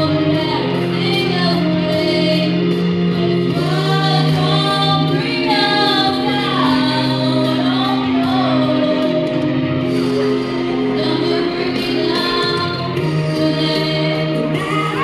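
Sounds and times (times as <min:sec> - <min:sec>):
girl singing into microphone: 0:00.0 - 0:09.6, 0:10.7 - 0:15.0
accompanying music with bass notes: 0:00.0 - 0:15.0.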